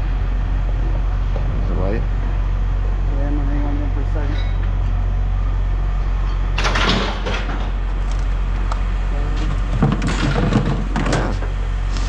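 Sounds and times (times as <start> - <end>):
vehicle engine idling: 0.0 - 6.7, 7.6 - 12.0.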